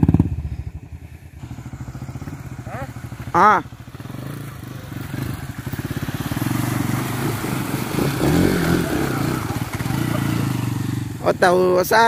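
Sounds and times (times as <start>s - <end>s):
motorcycle engine throbbing: 0.0s - 11.8s
motorcycle churning through mud: 0.0s - 12.0s.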